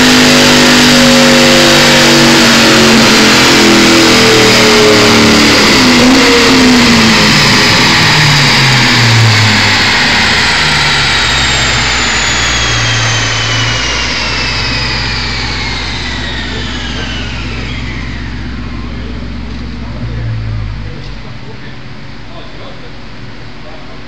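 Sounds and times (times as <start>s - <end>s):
car engine idling: 0.0s - 24.0s
dyno rollers whine: 0.0s - 24.0s.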